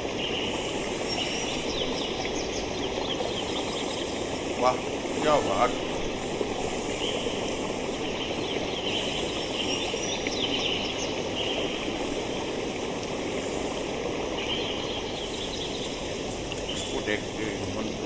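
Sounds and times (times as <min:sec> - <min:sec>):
birds chirping: 0:00.0 - 0:18.0
stream flowing over rocks: 0:00.0 - 0:18.0.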